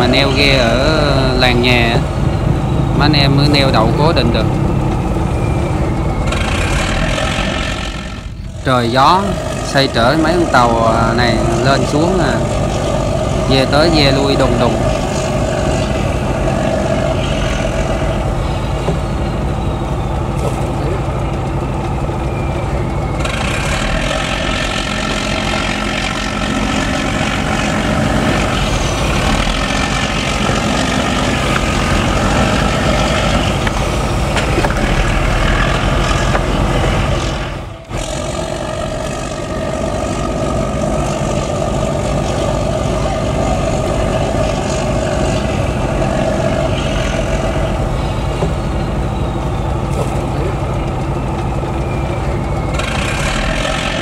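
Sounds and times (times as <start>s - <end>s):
boat diesel engine running: 0.0s - 54.0s.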